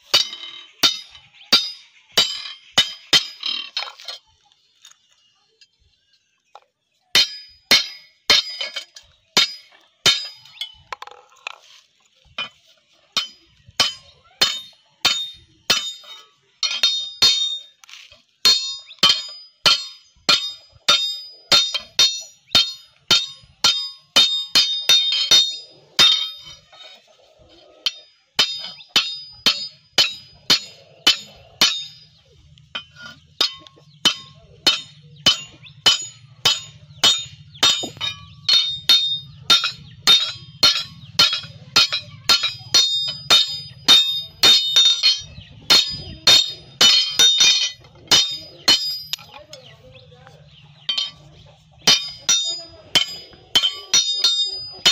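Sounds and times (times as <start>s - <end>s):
hammer striking metal anvil: 0.0s - 4.0s, 7.2s - 10.7s, 13.2s - 17.7s, 18.4s - 26.7s, 27.9s - 32.2s, 32.8s - 49.6s, 50.8s - 54.9s.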